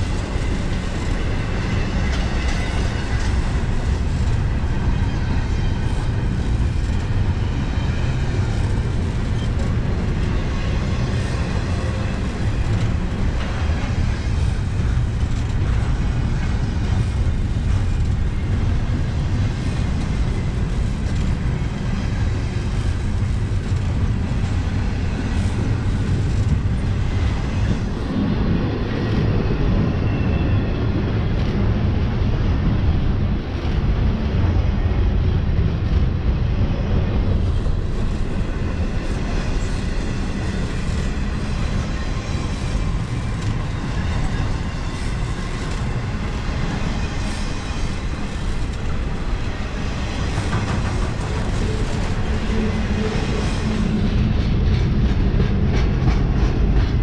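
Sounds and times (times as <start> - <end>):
steel train wheels rolling on rail: 0.0 - 57.0.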